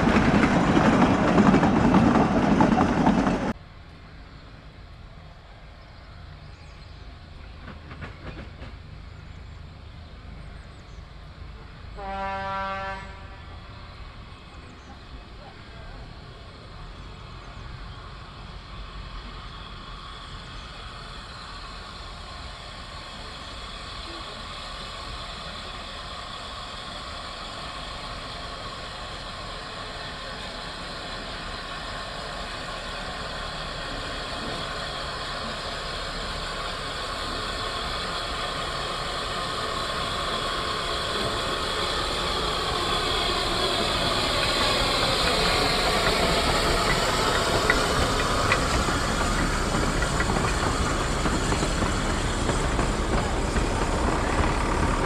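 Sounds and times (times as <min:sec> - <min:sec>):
steam locomotive working: 0:00.0 - 0:55.0.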